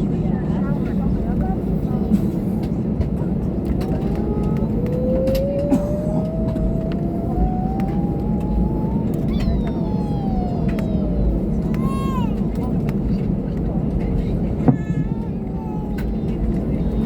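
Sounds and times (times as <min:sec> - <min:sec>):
jet engine whine: 0:00.0 - 0:17.0
jet engines rumbling: 0:00.0 - 0:17.0
faint clicks in cabin: 0:02.1 - 0:17.0.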